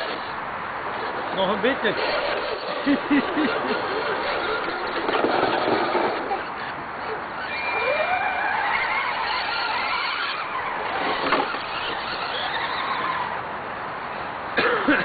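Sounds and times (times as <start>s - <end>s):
electric motor whining: 1.0s - 13.4s.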